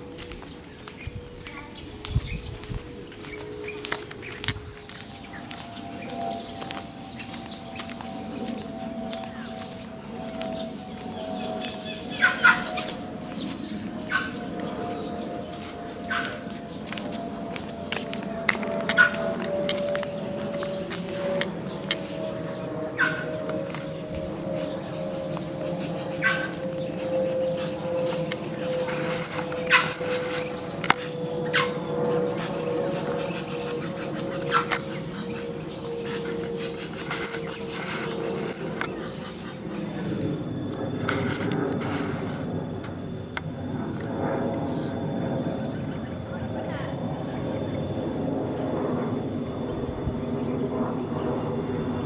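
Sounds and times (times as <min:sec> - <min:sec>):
low droning hum: 0:00.0 - 0:52.0.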